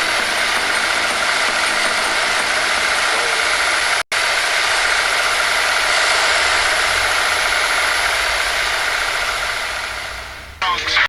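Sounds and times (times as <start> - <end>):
washing machine running: 0.0 - 10.6.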